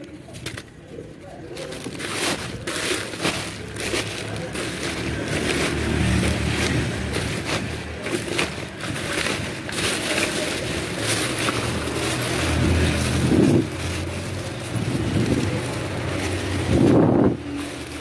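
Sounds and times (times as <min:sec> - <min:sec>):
plastic and paper crinkling: 0:00.0 - 0:18.0.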